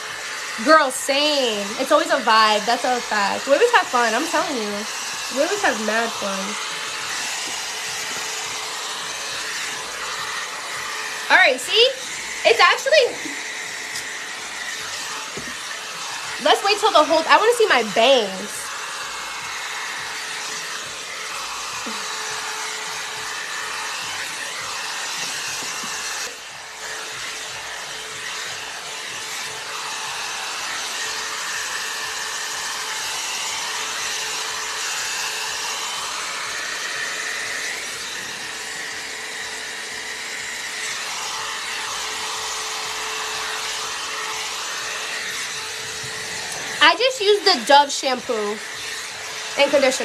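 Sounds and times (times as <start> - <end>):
hot-air brush whirring: 0.0 - 50.0.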